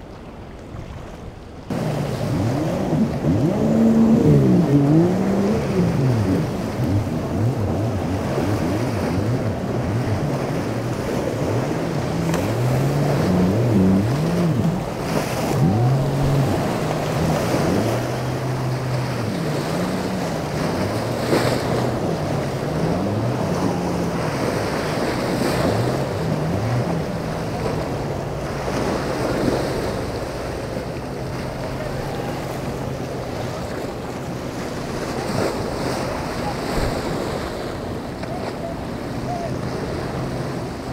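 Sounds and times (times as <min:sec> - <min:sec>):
surf churning: 0:00.0 - 0:40.9
wind: 0:00.0 - 0:40.9
boat engine revving: 0:00.3 - 0:40.9.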